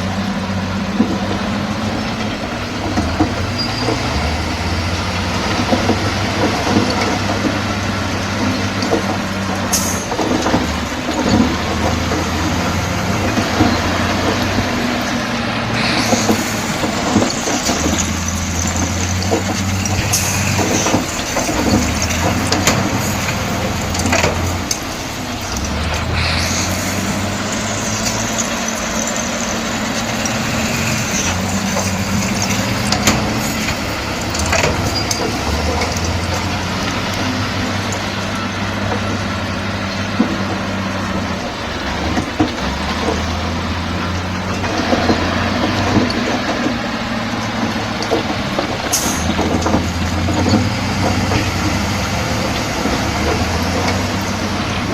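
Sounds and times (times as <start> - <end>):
bulldozer diesel engine under load: 0.0 - 54.9
constant clatter: 0.0 - 54.9.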